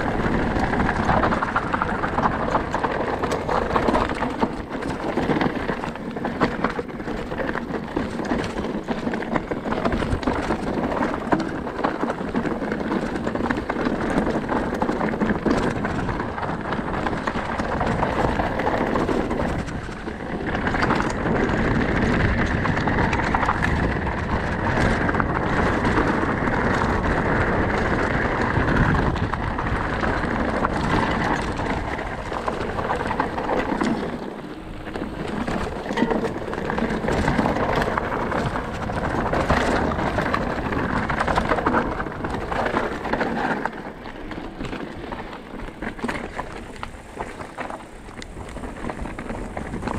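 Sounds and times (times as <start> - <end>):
bike rattling over bumps: 0.0 - 49.9
bike tyres crunching over gravel: 0.0 - 49.9.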